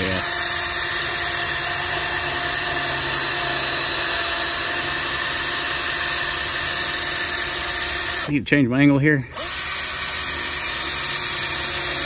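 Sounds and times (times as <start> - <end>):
drill with cut-off wheel grinding: 0.0 - 8.3, 9.2 - 12.0.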